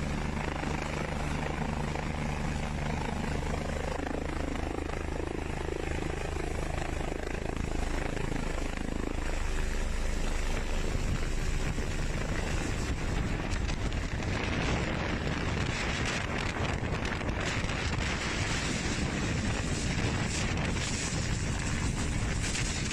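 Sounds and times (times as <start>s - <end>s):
helicopter rotor and turbine: 0.0s - 22.9s
wind noise on microphone: 0.0s - 22.9s.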